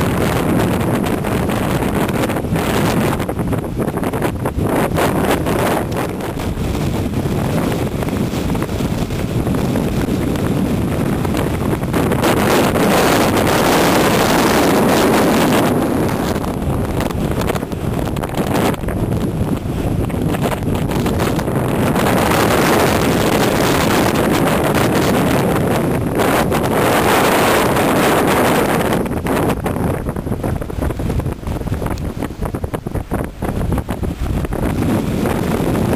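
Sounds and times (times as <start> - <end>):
stormy sea: 0.0 - 35.9
wind buffeting microphone: 0.0 - 35.9.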